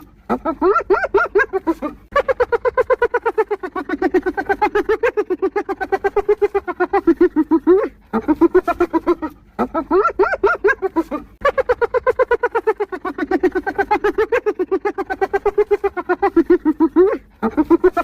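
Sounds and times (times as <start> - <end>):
hyena giggling yelps: 0.0 - 18.0.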